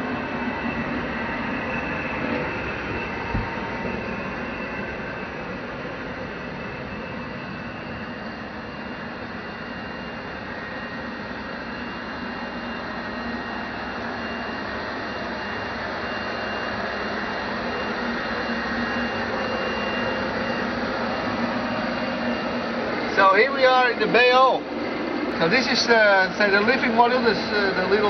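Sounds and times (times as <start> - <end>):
faint steady whines: 0.0 - 28.0.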